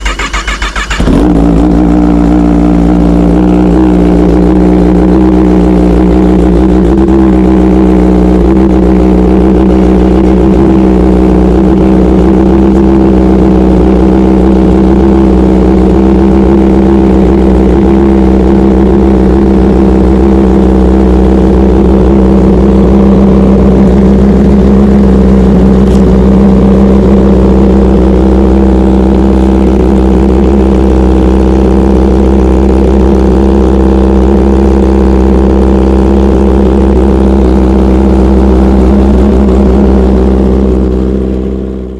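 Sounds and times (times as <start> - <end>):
motorcycle engine idling loudly: 0.0 - 41.9.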